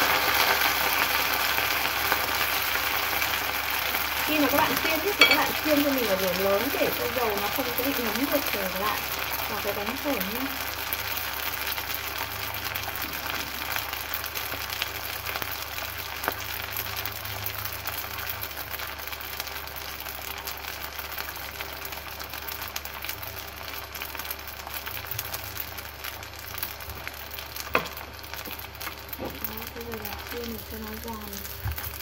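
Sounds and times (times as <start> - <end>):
noodles deep-frying in oil: 0.0 - 32.0.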